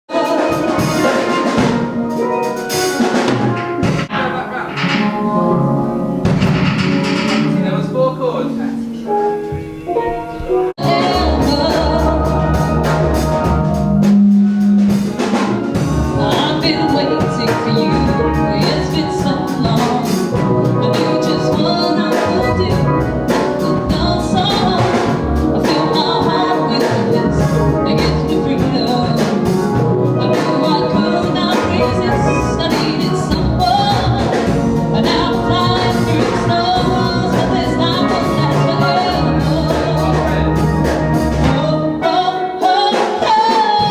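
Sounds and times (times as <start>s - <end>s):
band music with drum beat: 0.1s - 43.9s.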